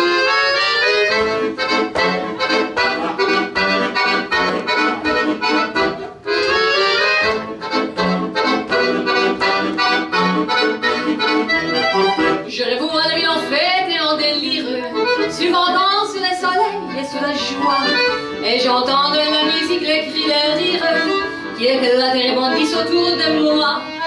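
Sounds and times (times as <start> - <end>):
piano accordion playing a waltz: 0.0 - 24.0.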